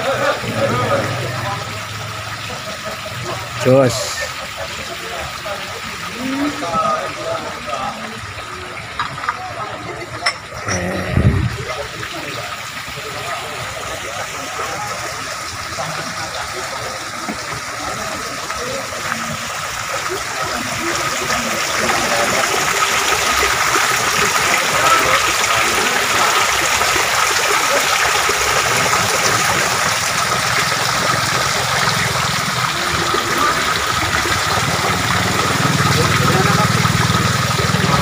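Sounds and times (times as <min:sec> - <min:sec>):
water pouring and splashing: 0:00.0 - 0:38.0.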